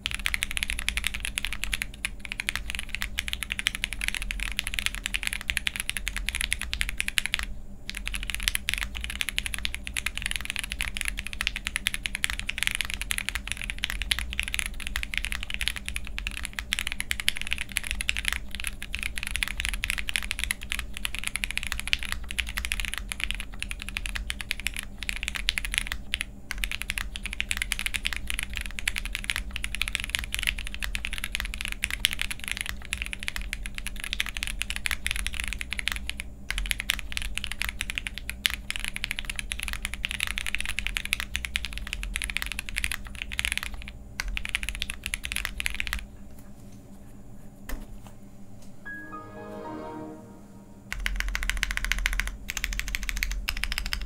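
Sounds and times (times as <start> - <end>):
fast mechanical keyboard typing: 0.0 - 46.1, 50.9 - 54.0.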